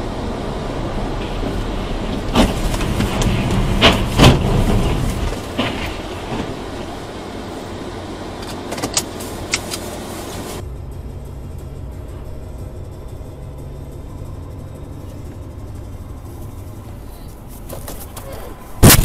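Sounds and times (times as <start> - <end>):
road and engine noise in car: 0.0 - 19.0.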